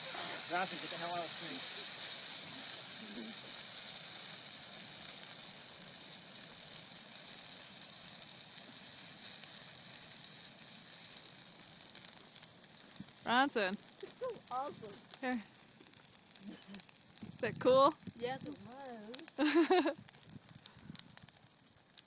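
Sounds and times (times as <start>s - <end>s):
fire crackling and hissing: 0.0s - 22.0s.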